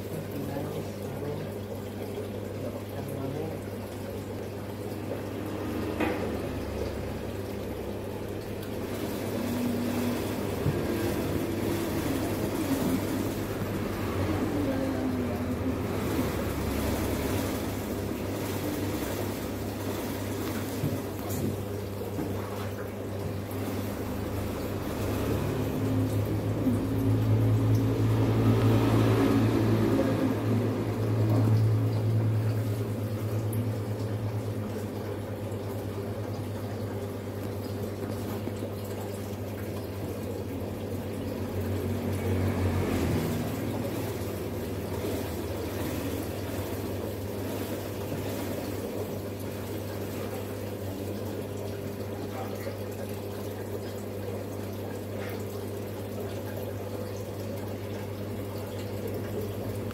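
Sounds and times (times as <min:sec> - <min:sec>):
low pump hum: 0:00.0 - 0:59.9
water splashing in fish tank: 0:00.0 - 0:59.9.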